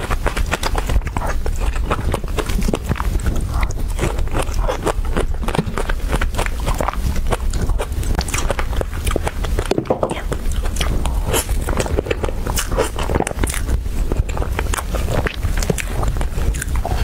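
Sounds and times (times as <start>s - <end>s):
chewing clicks and smacks: 0.0s - 17.0s.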